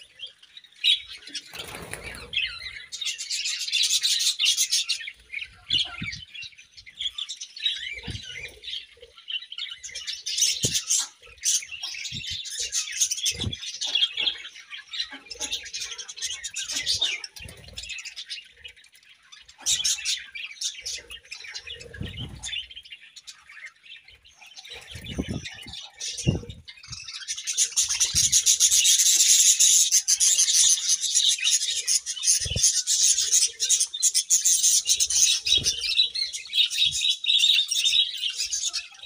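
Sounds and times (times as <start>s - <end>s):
budgerigars chattering and chirping: 0.0s - 39.0s.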